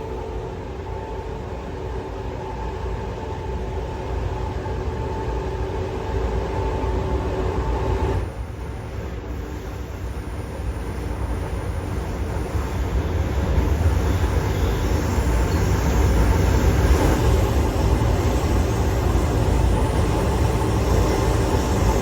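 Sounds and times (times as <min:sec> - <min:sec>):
train rumbling: 0:00.0 - 0:22.0
train whine: 0:00.0 - 0:22.0.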